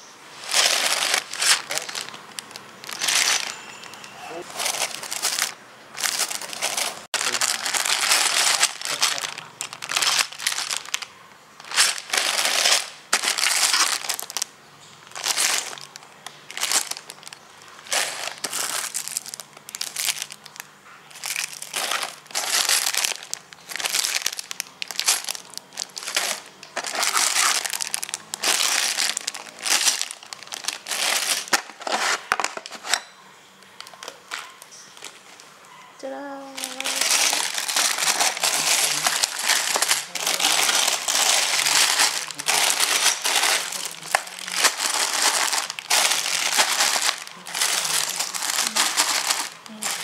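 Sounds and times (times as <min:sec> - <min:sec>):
plastic bags crinkling: 0:00.0 - 0:33.0, 0:33.6 - 0:35.5, 0:36.3 - 0:50.0.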